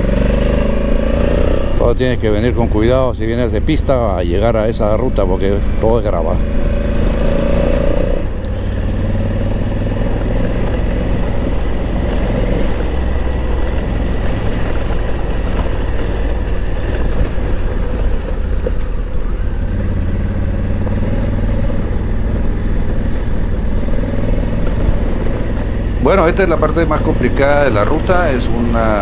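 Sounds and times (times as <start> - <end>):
motorcycle engine drone: 0.0 - 29.0
road noise: 0.0 - 29.0.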